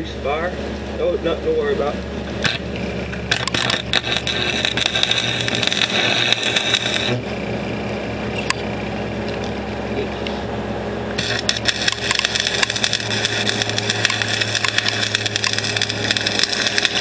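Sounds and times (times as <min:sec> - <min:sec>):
steady hum: 0:00.0 - 0:17.0
welding arc crackling: 0:01.8 - 0:09.6, 0:11.1 - 0:17.0.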